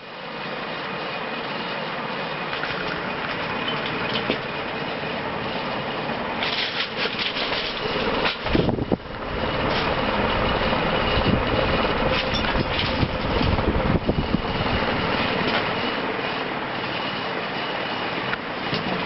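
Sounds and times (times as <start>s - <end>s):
ceiling fan running: 0.0s - 19.0s.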